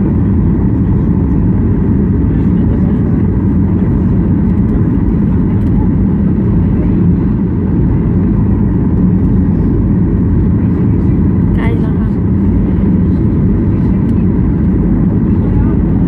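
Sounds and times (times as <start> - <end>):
jet engines rumbling in cabin: 0.0 - 16.0.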